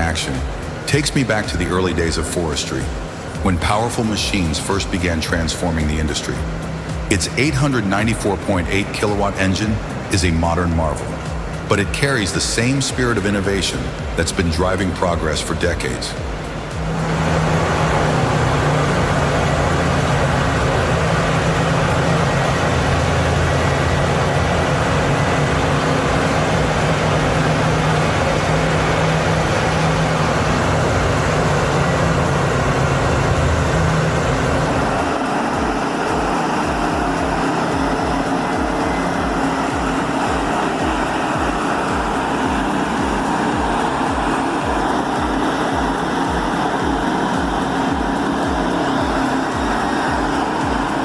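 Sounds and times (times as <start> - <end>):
large engine droning: 0.0 - 51.0
rough pulsing machine noise: 0.0 - 51.0.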